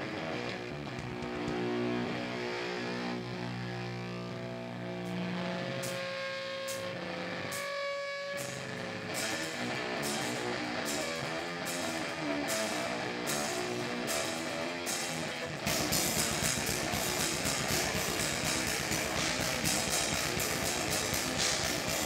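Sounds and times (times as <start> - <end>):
electric guitar chords and riff: 0.0 - 22.0.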